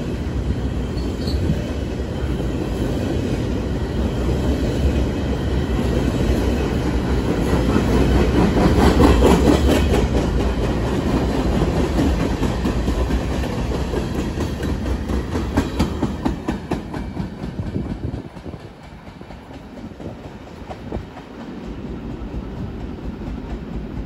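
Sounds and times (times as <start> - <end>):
freight train rumbling past: 0.0 - 24.0
wheels clacking over rail joints: 4.1 - 24.0.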